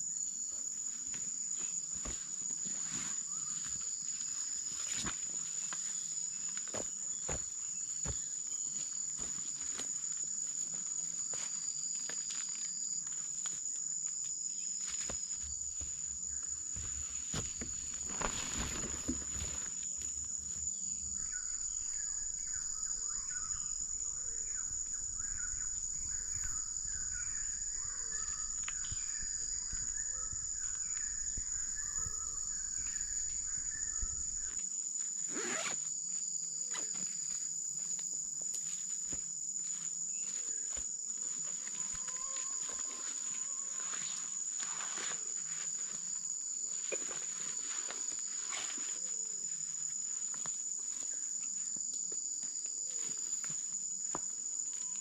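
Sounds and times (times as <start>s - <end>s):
crickets droning: 0.0s - 55.0s.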